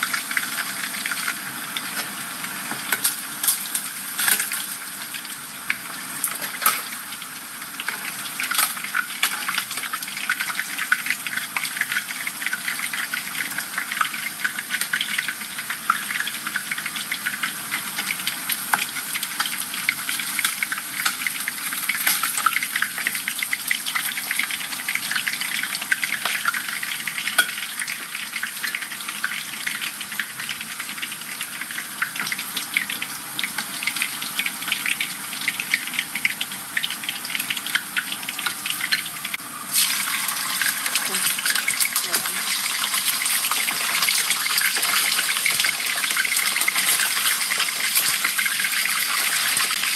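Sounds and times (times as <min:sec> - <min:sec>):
fish deep-frying in oil: 0:00.0 - 0:49.9.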